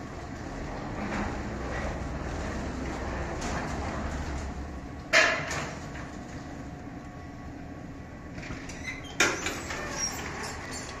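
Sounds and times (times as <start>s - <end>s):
doors sliding open: 0.0s - 6.7s, 8.3s - 11.0s.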